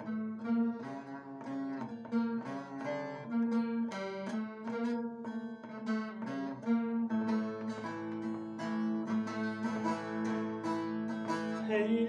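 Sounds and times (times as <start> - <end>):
long-necked lute playing: 0.0 - 12.0.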